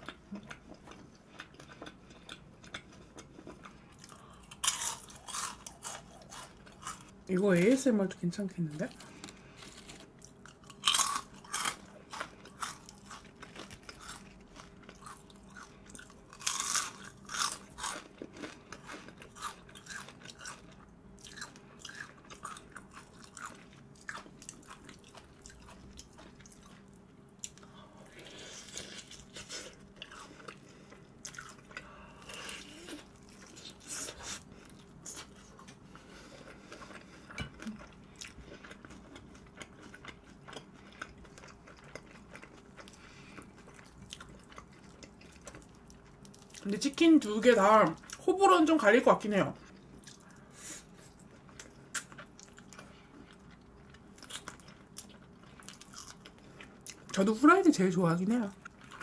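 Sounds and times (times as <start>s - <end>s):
person chewing crunchy food: 0.0s - 7.8s, 8.6s - 46.7s, 49.6s - 57.2s, 58.5s - 59.0s.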